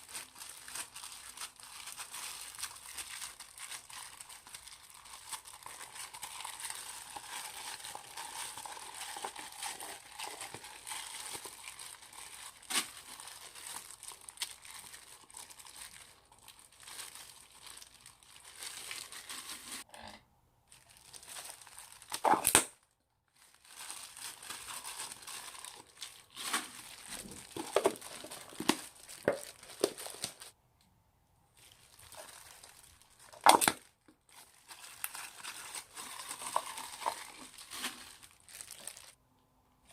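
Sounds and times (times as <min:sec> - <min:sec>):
slime crinkly crackling: 0:00.0 - 0:19.9, 0:20.7 - 0:30.6, 0:31.6 - 0:39.2.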